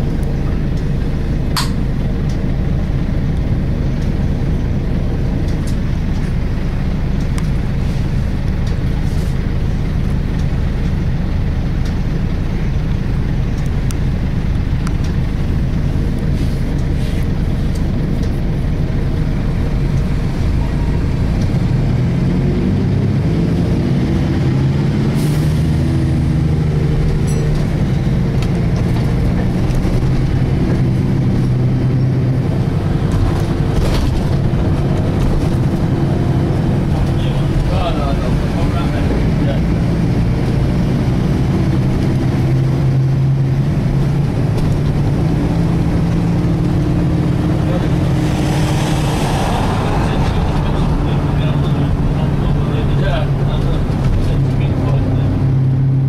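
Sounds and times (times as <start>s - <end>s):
bus drivetrain drone: 0.0s - 56.0s.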